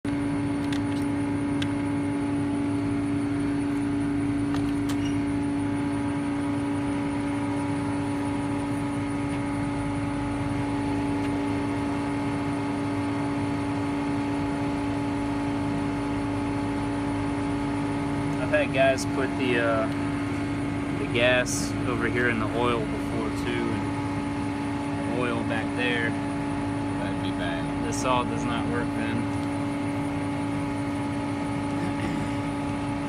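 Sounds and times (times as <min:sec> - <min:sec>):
steady mechanical drone: 0:00.0 - 0:33.0.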